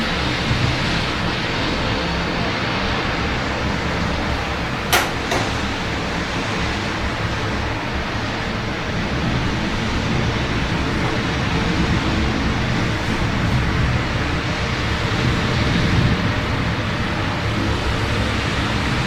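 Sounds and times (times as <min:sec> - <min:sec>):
city traffic hum: 0:00.0 - 0:19.0
steady rain: 0:00.0 - 0:19.0.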